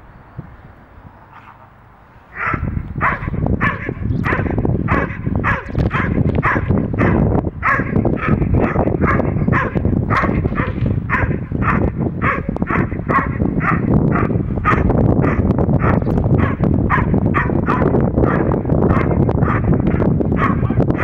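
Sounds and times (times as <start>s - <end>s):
dog barking rapidly: 2.3s - 21.0s.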